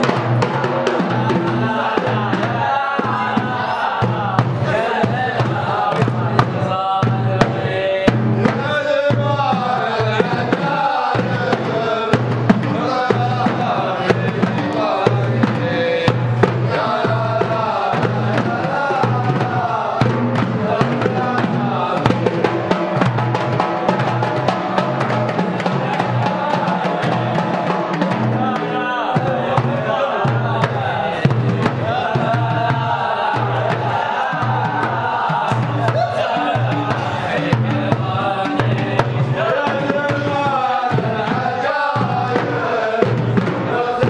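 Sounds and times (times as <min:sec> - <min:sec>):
frame drums beating: 0:00.0 - 0:44.0
men chanting a folk song: 0:00.0 - 0:44.0.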